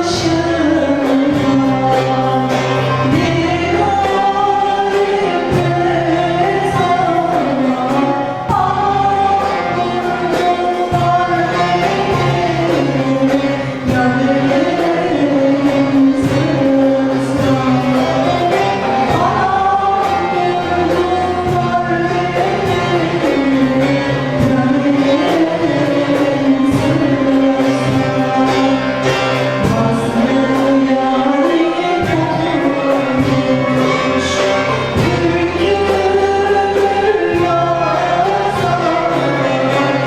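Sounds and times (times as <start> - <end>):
folk choir singing: 0.0 - 40.0.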